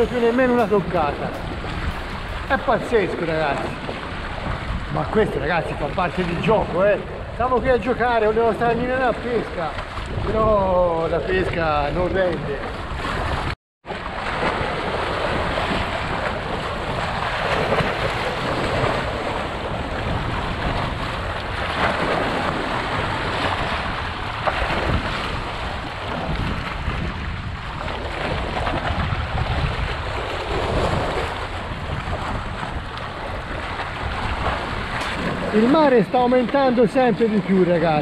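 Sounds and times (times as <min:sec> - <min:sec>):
waves splashing over rocks: 0:00.0 - 0:38.0
wind buffeting microphone: 0:00.0 - 0:38.0.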